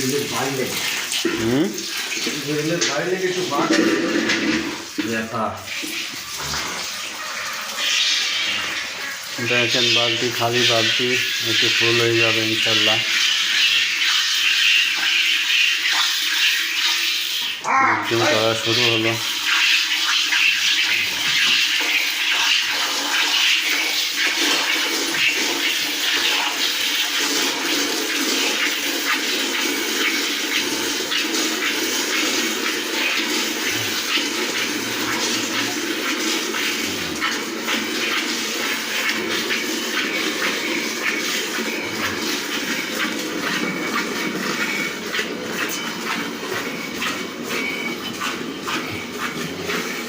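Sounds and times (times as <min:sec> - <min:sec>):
milk squirting into bucket: 0:00.0 - 0:50.0.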